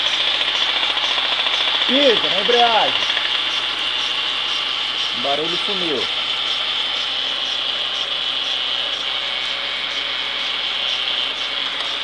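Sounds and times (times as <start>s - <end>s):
car engine idling with high whirr: 0.0s - 12.0s
faint regular ticking: 0.0s - 12.0s.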